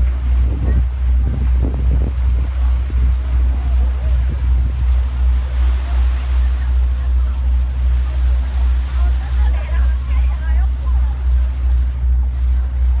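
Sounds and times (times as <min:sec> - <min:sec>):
boat engine rumbling: 0:00.0 - 0:13.0
faint voices: 0:00.0 - 0:13.0
wind: 0:00.0 - 0:13.0.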